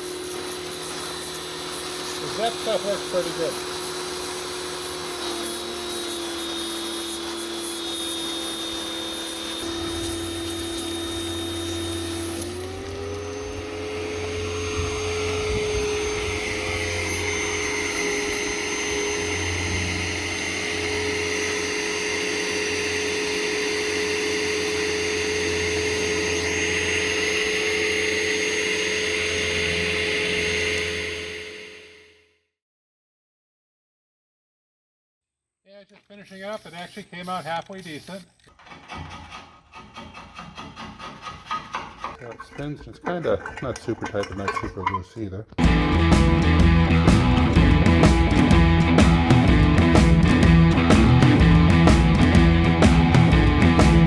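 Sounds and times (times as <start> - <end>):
electric tool motor whining: 0.0 - 32.2, 36.0 - 54.0.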